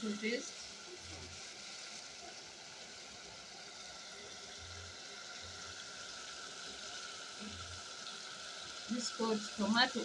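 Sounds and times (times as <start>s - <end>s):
meat and onions sizzling in pot: 0.0s - 10.0s.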